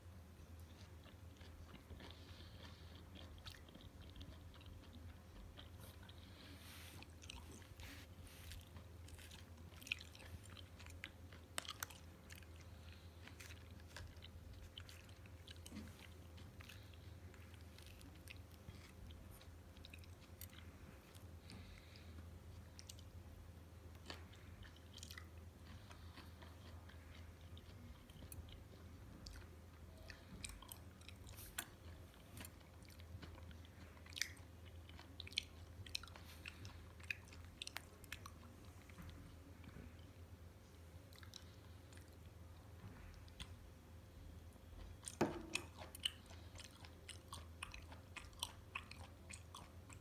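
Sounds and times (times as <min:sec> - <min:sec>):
low steady hum: 0:00.0 - 0:50.0
person chewing: 0:00.4 - 0:50.0.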